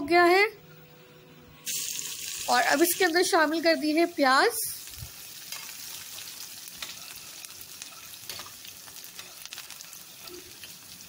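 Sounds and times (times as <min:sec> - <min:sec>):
onions sizzling in a pan: 0:01.6 - 0:11.0.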